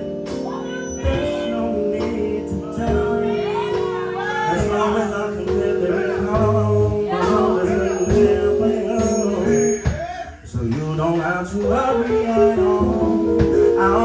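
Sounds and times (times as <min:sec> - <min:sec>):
singing over instrumental chords: 0:00.0 - 0:14.0.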